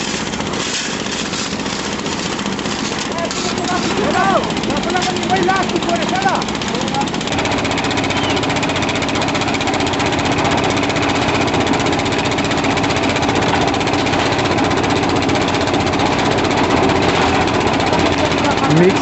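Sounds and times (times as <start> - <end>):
concrete mixer engine drone: 0.0 - 19.0.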